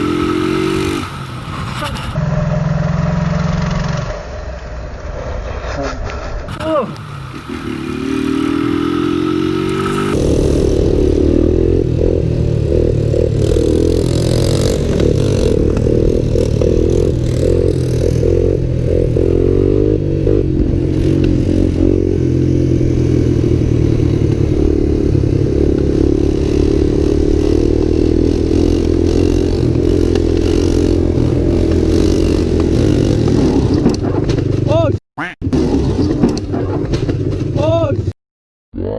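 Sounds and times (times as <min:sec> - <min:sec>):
motorcycle engine revving: 0:00.0 - 0:37.7.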